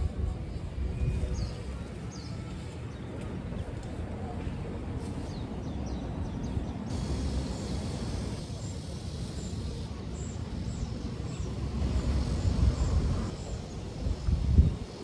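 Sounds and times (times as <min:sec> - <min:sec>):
steady low rumble: 0:02.7 - 0:14.8.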